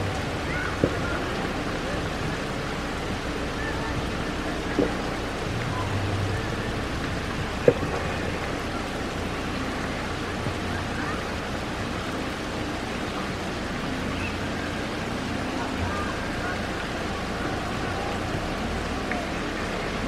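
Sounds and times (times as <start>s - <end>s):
rain falling on pavement: 0.0s - 20.0s.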